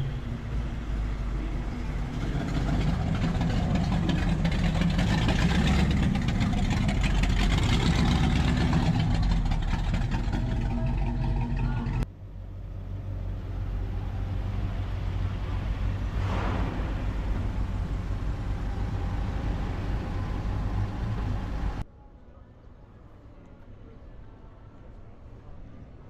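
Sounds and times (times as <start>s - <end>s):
car engine running: 0.0s - 21.8s
low hum: 0.0s - 21.9s.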